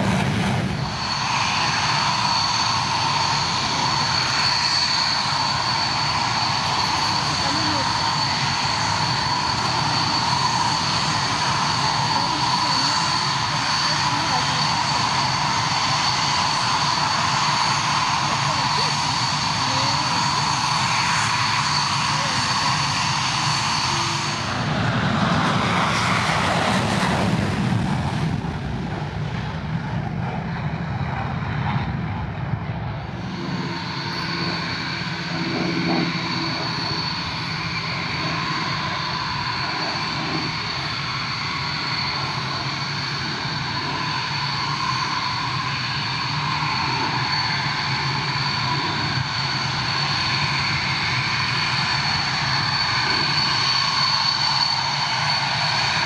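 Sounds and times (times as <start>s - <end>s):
jet engine whine and rumble: 0.0s - 56.0s.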